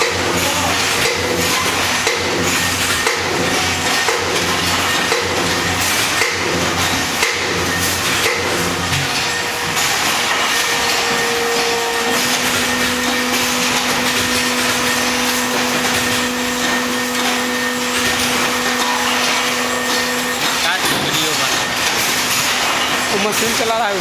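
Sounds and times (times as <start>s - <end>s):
hydraulic pump hum and whine: 0.0s - 24.0s.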